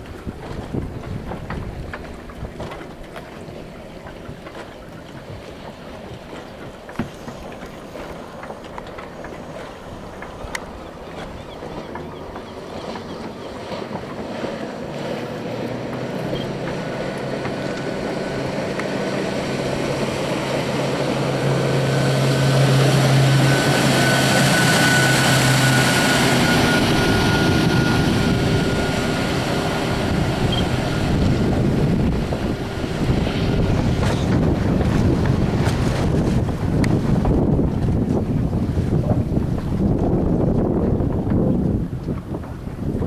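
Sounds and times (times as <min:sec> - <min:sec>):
boat wake hissing: 0:00.0 - 0:43.0
motorboat engine drone: 0:00.0 - 0:43.0
wind buffeting microphone: 0:00.0 - 0:43.0.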